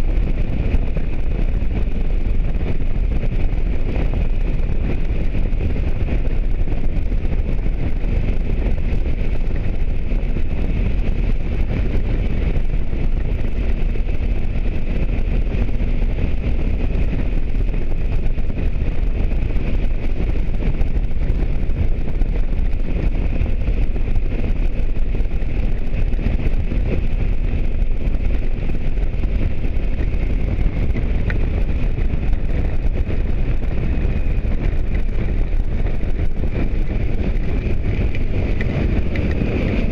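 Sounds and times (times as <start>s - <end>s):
motorcycle engine hum: 0.0s - 39.9s
wind rush on microphone: 0.0s - 39.9s.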